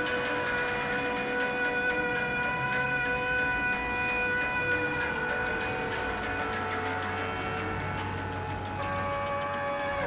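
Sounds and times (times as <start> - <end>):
layered droning tones: 0.0 - 10.0.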